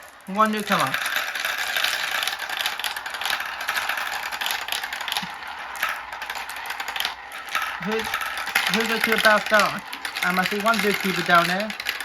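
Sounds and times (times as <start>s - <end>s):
marbles rattling through marble run: 0.0s - 12.0s.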